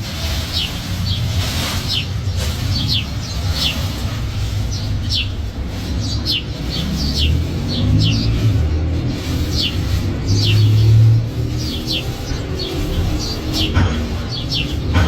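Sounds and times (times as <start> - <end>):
bird chirping: 0.4 - 15.0.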